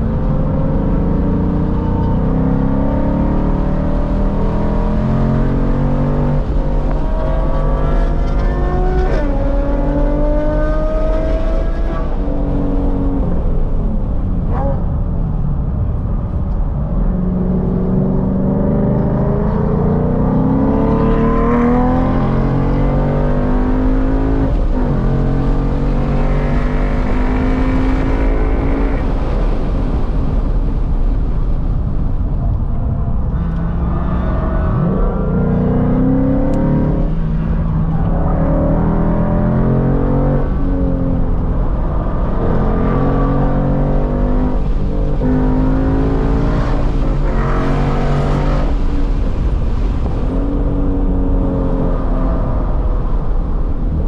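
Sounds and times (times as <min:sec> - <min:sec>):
car engine revving: 0:00.0 - 0:15.0, 0:17.0 - 0:30.8, 0:32.7 - 0:54.0
road and wind noise: 0:00.0 - 0:54.0.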